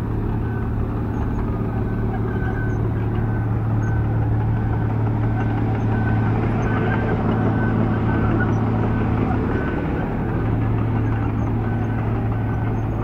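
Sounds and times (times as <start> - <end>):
heavy diesel engine humming: 0.0 - 13.0.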